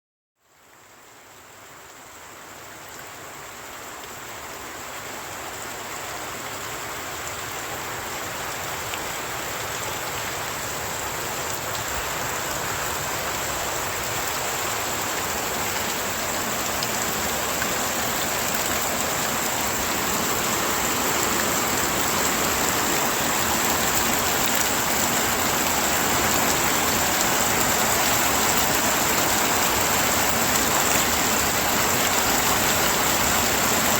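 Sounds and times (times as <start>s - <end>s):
heavy rain pouring: 1.2s - 33.9s.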